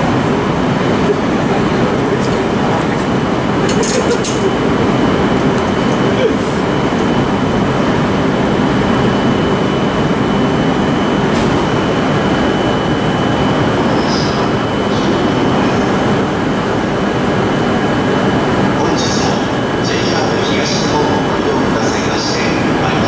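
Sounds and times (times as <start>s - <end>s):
electric trains rumbling: 0.0s - 23.0s
thin high whine: 0.0s - 23.0s.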